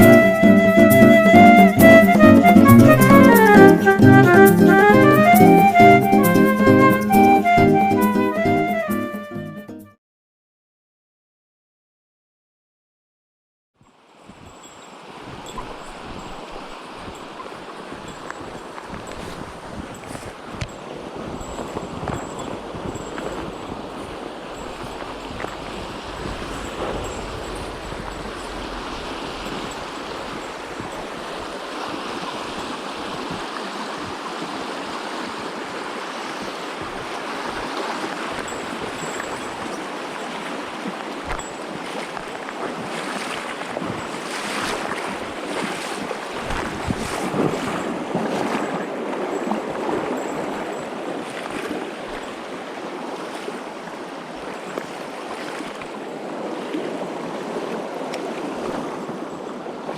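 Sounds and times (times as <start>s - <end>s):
stream water rushing: 0.0s - 9.4s, 13.8s - 59.9s.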